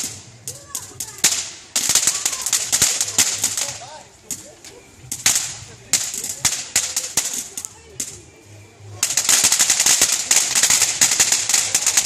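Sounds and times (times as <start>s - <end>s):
rapid sharp cracks and pops: 0.0s - 4.5s, 5.1s - 8.2s, 9.0s - 12.0s.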